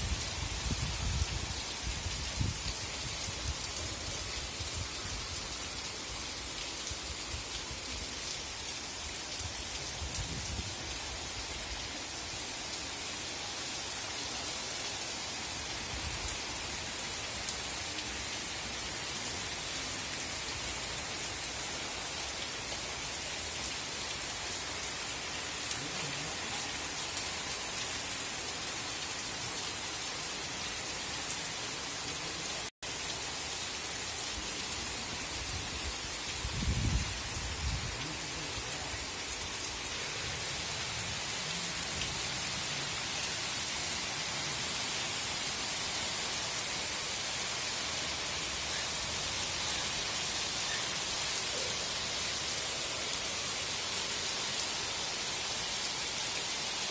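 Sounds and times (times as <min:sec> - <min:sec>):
steady rain on pavement and rooftops: 0:00.0 - 0:56.9.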